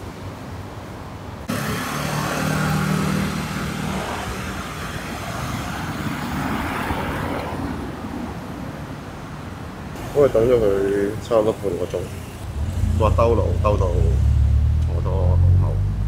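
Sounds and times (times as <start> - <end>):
passing traffic noise: 0.0 - 16.0
vehicle engine humming: 1.4 - 16.0.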